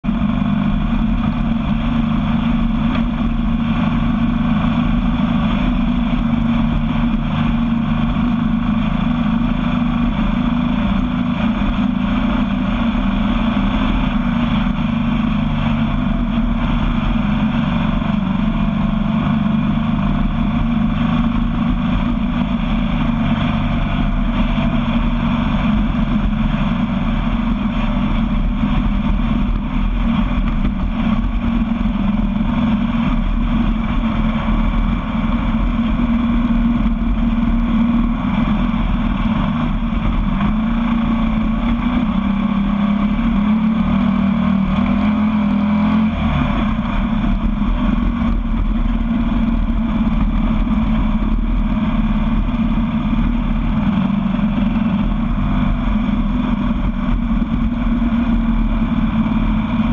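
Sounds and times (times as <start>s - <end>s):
vehicle engine running steadily: 0.0s - 59.9s.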